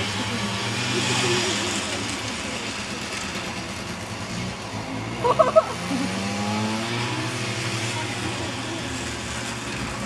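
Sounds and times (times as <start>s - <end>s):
snowmobile engines racing: 0.0s - 10.0s.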